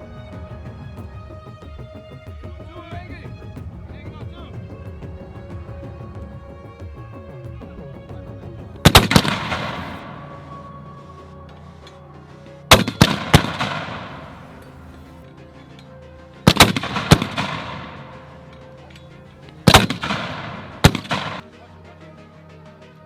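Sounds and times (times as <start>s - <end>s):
faint background music: 0.0s - 23.0s.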